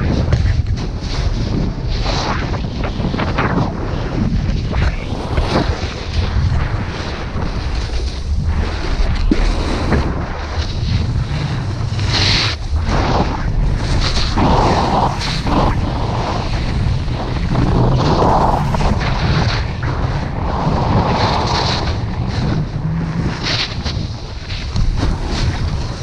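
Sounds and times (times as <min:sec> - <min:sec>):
board edge scraping snow: 0:00.0 - 0:26.0
snowboard sliding on snow: 0:00.0 - 0:26.0
wind buffeting microphone: 0:00.0 - 0:26.0.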